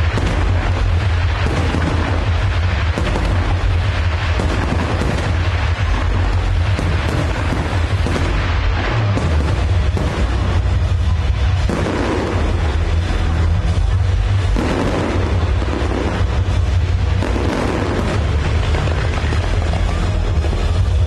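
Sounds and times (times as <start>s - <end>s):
fireworks rumble and crackle: 0.0s - 21.0s.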